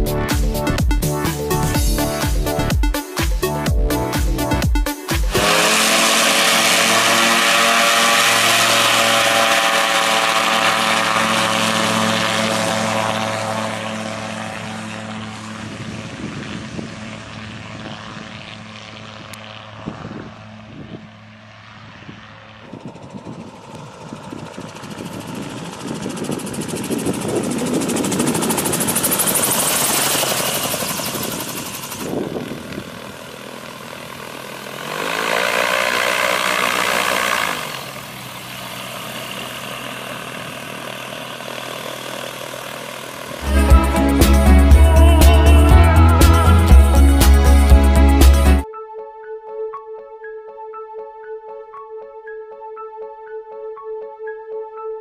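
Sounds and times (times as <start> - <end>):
autogyro engine and propeller: 0.0 - 48.7
close engine steady note: 0.0 - 48.7.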